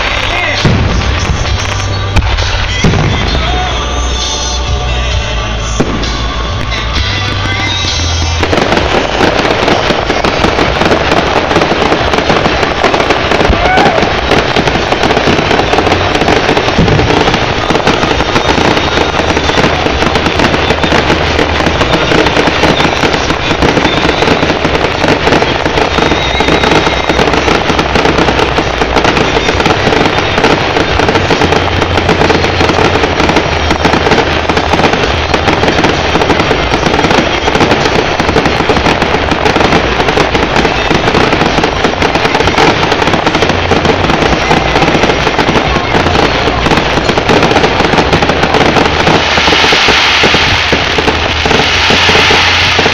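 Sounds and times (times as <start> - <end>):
fireworks barrage bangs and crackles: 0.0 - 52.9.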